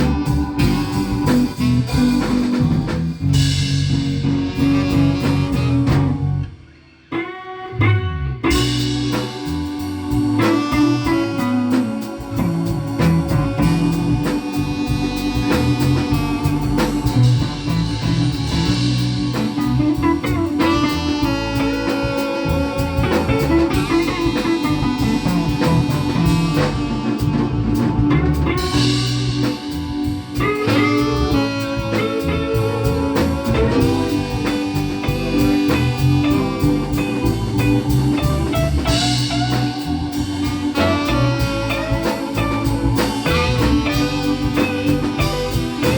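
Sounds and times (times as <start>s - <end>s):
drum kit: 0.0s - 7.3s, 8.4s - 45.9s
bass guitar: 0.0s - 45.9s
electric guitar lead: 0.0s - 45.9s.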